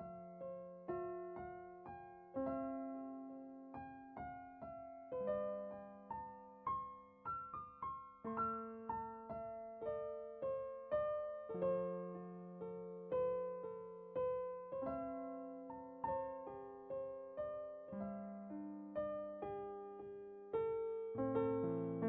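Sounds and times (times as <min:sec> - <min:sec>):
gentle solo piano melody: 0:00.0 - 0:22.0.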